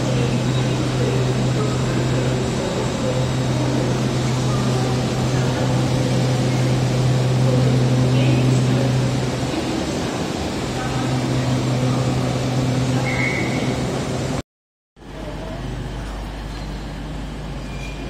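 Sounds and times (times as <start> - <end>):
train low steady hum: 0.0 - 14.4, 15.0 - 18.0.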